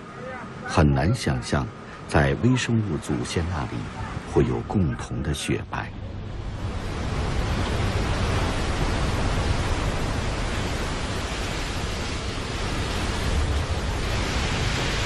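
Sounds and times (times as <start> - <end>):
water churning along hull: 0.0 - 15.0
wind at sea: 0.0 - 15.0.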